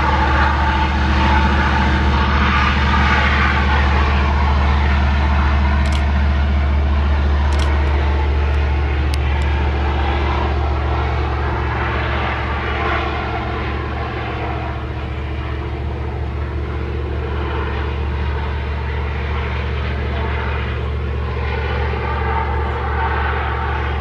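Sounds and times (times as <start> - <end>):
locomotive engine drone: 0.0 - 24.0
rumble of train wagons: 0.0 - 24.0.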